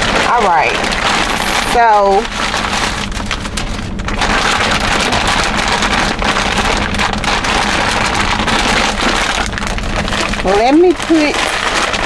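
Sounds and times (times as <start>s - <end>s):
plastic bag crinkling: 0.0s - 12.0s
steady low hum: 0.0s - 12.0s.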